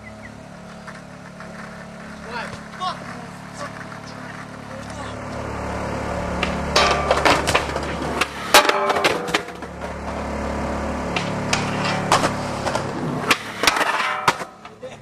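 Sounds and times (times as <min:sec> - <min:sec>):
skateboard wheels rolling: 0:00.0 - 0:15.0
skateboard clacking on ground: 0:00.6 - 0:05.0, 0:06.4 - 0:10.2, 0:11.1 - 0:15.0.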